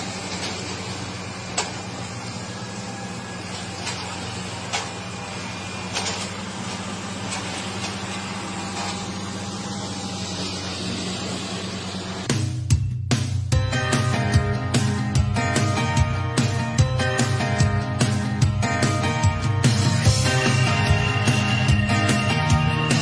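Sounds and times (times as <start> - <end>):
heavy machine engine running: 0.0 - 12.4, 13.6 - 23.0.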